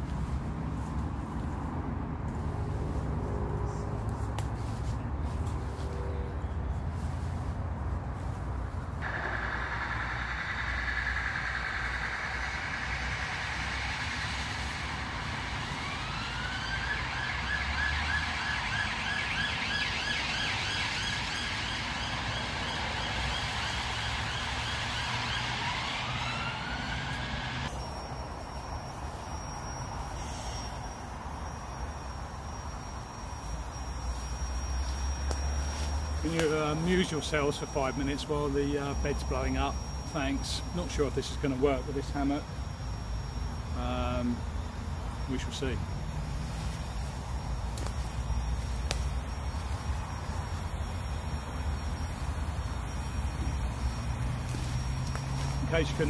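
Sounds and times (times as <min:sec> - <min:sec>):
traffic rumble: 0:00.0 - 0:56.0
emergency siren wailing and yelping: 0:09.0 - 0:56.0.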